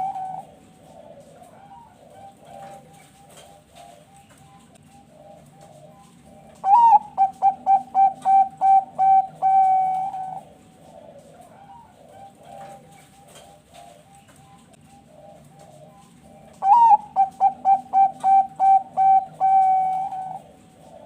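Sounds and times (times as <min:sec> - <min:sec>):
dove singing: 0:00.0 - 0:21.0
faint cooing of other doves: 0:00.0 - 0:21.0.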